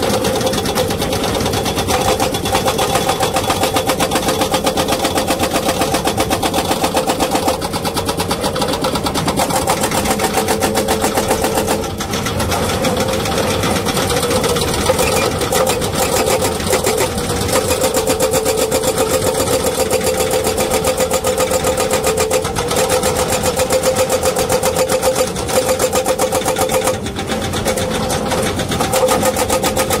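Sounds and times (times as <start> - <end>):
excavator engine running: 0.0 - 30.0
hydraulic rock breaker hammering: 0.0 - 30.0.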